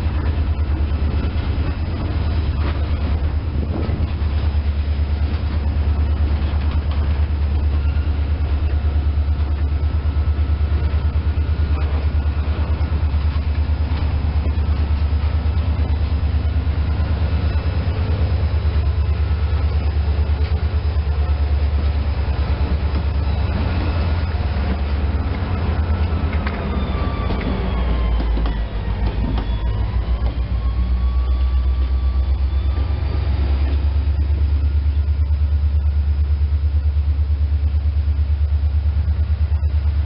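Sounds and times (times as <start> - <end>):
diesel locomotive engine throbbing: 0.0 - 40.0.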